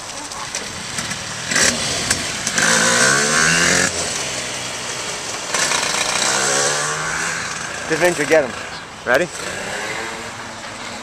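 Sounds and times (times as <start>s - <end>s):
two-stroke kart engine revving: 0.0s - 11.0s.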